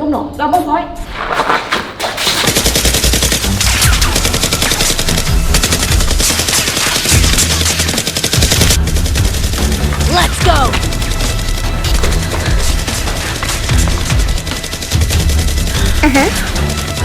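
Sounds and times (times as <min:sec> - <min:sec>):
background music: 0:00.0 - 0:17.0
rapid automatic gunfire: 0:02.2 - 0:15.8.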